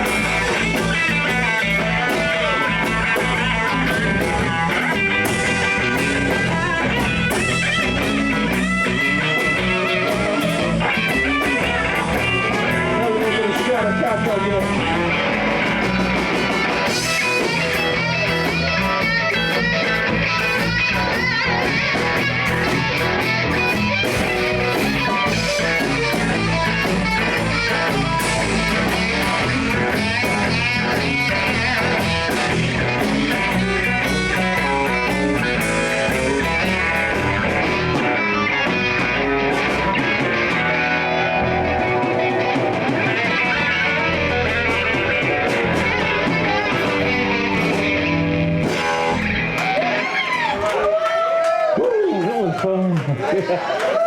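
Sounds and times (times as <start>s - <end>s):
electric guitar lead: 0.0s - 51.2s
live blues-rock band: 0.0s - 51.8s.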